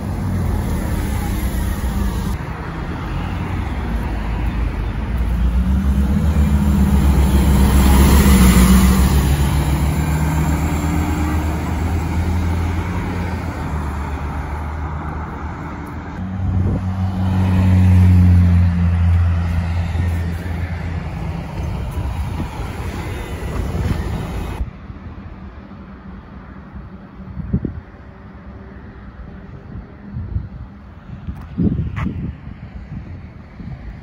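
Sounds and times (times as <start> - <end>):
diesel buses driving past: 0.0 - 34.0
road traffic: 0.0 - 34.0.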